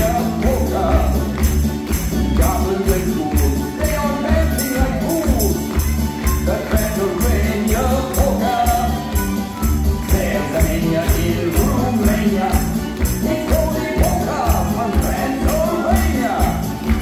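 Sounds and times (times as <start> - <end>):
jingling percussion: 0.0 - 17.0
upbeat music with steady beat: 0.0 - 17.0.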